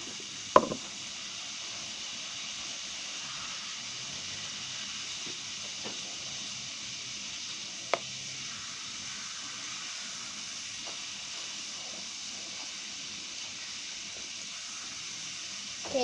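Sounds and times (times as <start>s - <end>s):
bread sizzling in a pan: 0.0s - 16.0s.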